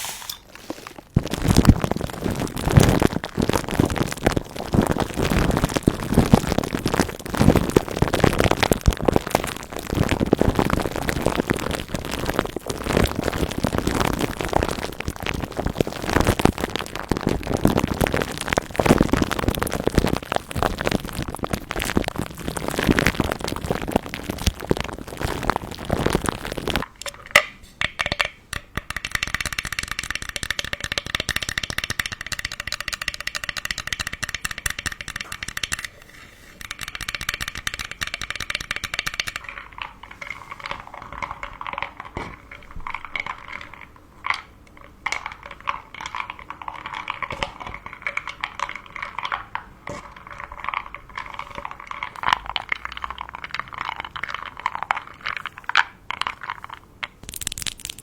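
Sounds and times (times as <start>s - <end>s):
candy wrappers crinkling: 0.0s - 27.0s, 36.6s - 58.0s.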